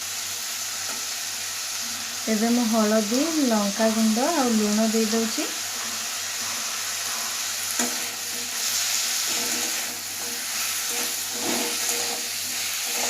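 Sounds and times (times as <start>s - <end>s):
pineapple sizzling in hot oil: 0.0s - 13.0s.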